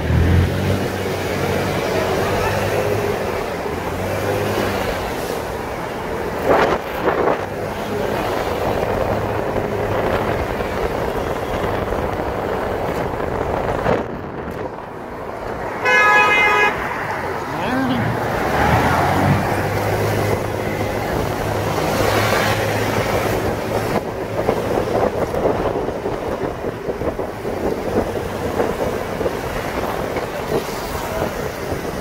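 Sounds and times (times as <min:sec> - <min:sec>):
wind rushing over microphone: 0:00.0 - 0:15.9, 0:16.7 - 0:32.0
motorbike engine and road noise: 0:00.0 - 0:32.0.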